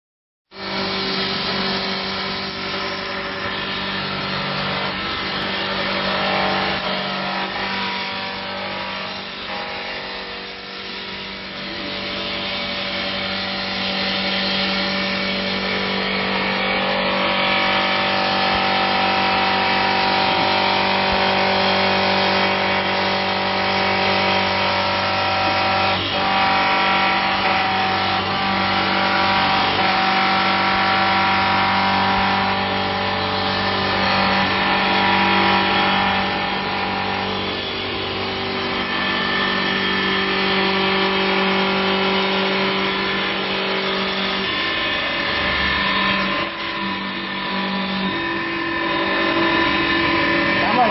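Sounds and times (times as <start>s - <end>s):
cutters scraping spinning wood: 0.6s - 50.9s
lathe motor hum: 0.6s - 50.9s.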